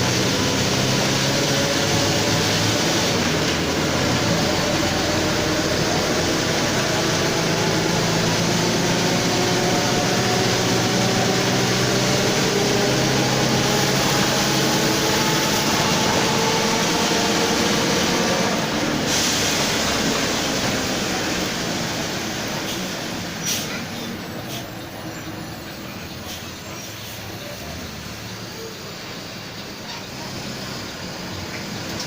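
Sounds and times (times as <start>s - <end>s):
bus engine: 0.0s - 32.0s.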